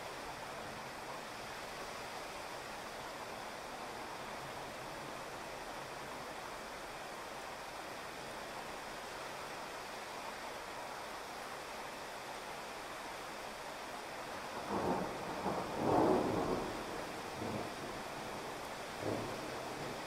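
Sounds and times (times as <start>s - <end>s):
heavy rain on a street: 0.0s - 20.0s.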